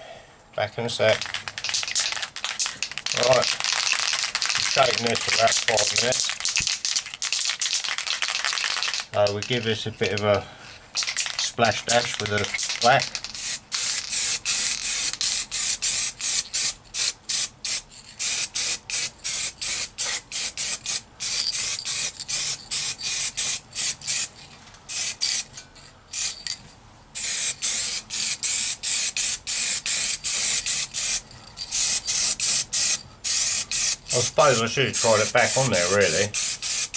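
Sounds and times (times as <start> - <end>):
spray paint can hissing: 1.1 - 10.3, 11.0 - 25.5, 26.1 - 26.6, 27.2 - 36.9.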